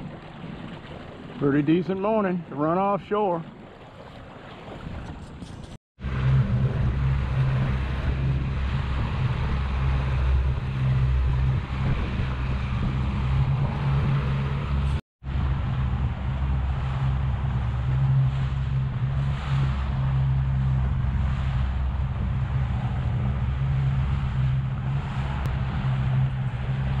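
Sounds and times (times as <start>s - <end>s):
outboard motor running: 0.0s - 27.0s
water rushing in wake: 0.0s - 27.0s.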